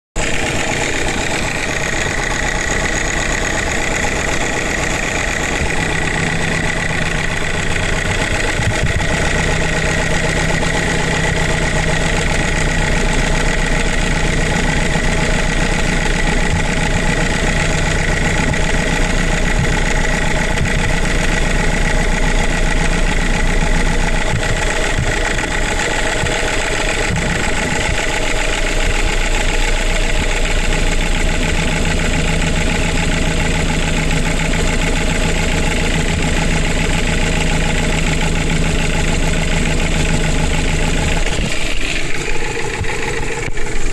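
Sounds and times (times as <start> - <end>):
car engine idling with knock: 0.2 - 43.9.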